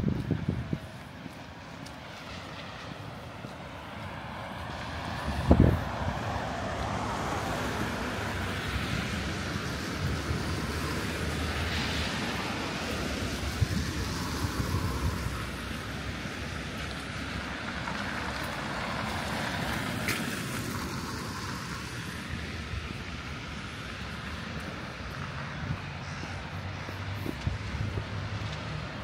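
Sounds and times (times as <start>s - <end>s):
traffic passing: 0.0s - 29.0s.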